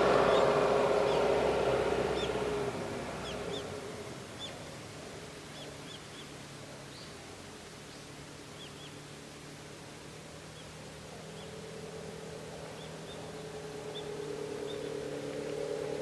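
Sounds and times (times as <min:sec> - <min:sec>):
quiet outdoor ambience: 0:00.0 - 0:16.0.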